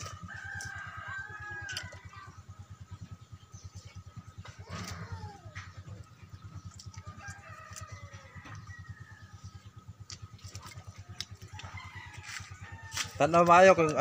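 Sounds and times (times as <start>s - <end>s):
chickens clucking and crowing: 0.0s - 13.7s.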